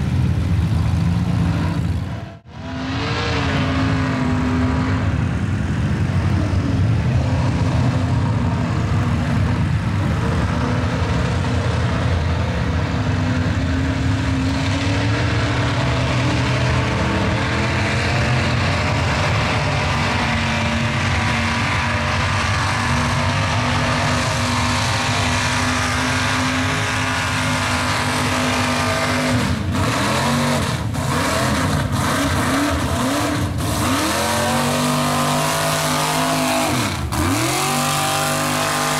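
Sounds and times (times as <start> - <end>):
truck engines revving loudly: 0.0 - 38.9.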